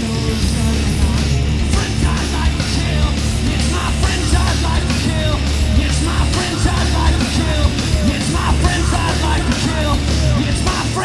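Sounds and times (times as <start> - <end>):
drums: 0.0 - 11.0
electric bass: 0.0 - 11.0
live heavy rock band: 0.0 - 11.0.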